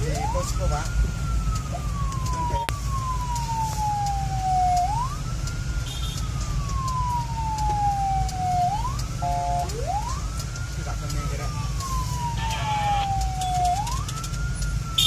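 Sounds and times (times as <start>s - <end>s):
emergency siren wailing: 0.0s - 15.0s
engine and road rumble: 0.0s - 15.0s.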